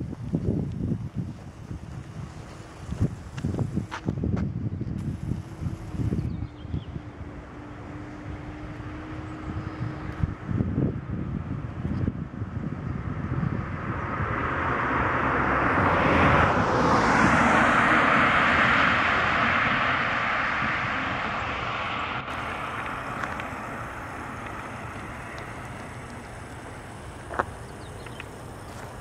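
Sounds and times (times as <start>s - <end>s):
aircraft passing overhead: 0.0s - 29.0s.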